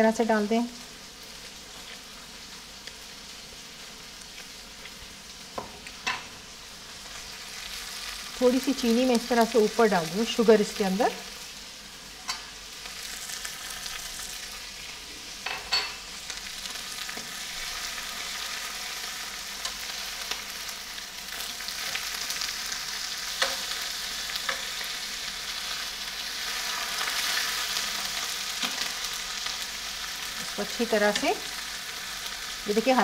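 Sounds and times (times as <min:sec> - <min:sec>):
chicken sizzling in frying pan: 0:00.0 - 0:33.0.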